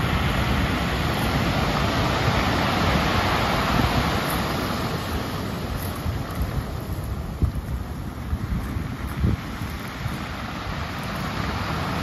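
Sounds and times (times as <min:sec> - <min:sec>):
waves washing over pebbles: 0:00.0 - 0:12.0
wind rumbling on microphone: 0:00.0 - 0:12.0.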